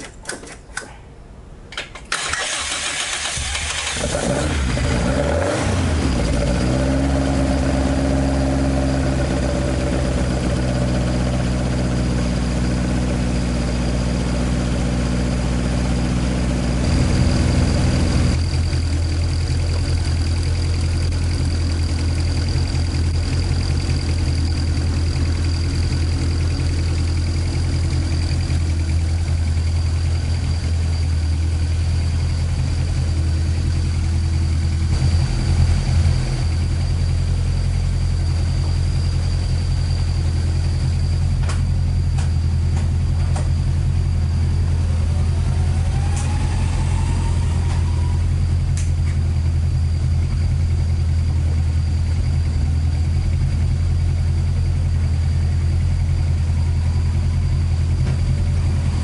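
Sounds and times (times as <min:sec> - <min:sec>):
car engine idling: 0:02.2 - 0:59.0.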